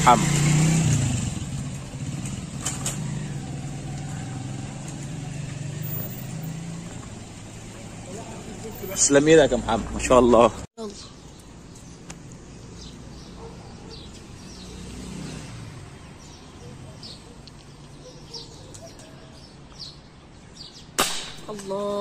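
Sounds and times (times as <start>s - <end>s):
distant traffic hum: 0.0s - 22.0s
small birds chirping: 1.5s - 22.0s.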